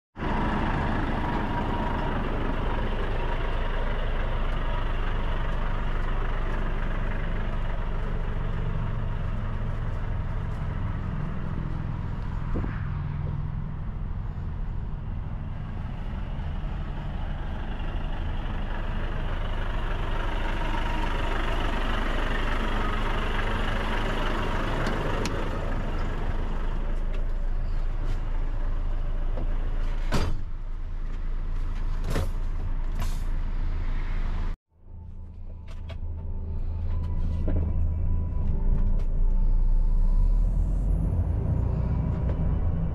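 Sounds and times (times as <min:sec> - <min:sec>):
diesel truck engine running: 0:00.2 - 0:42.9.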